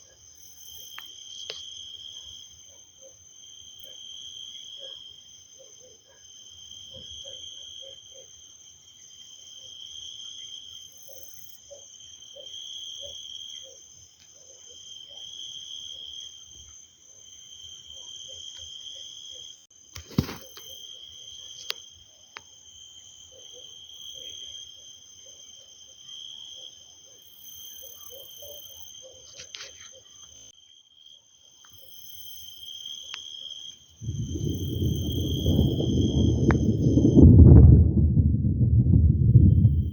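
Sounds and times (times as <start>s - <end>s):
insects trilling: 0.0s - 37.4s.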